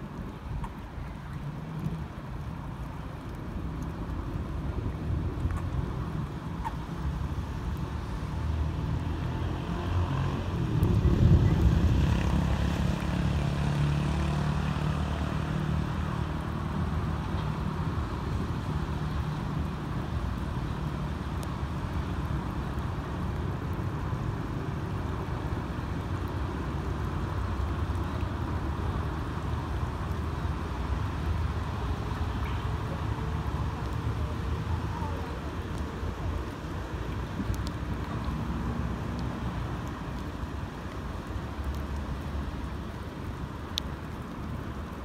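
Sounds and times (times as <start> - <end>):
traffic on wet roads: 0.0 - 45.0
vehicle engine rumble: 0.0 - 45.0.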